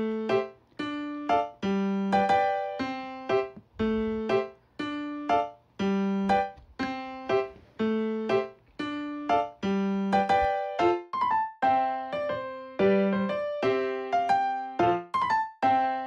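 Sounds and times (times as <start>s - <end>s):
light keyboard tune: 0.0s - 16.0s.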